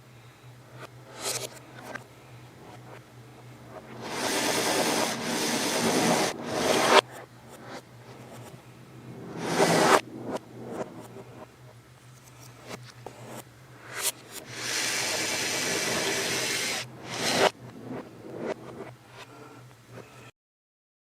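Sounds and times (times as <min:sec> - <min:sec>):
faint steady hum: 0:00.0 - 0:20.3.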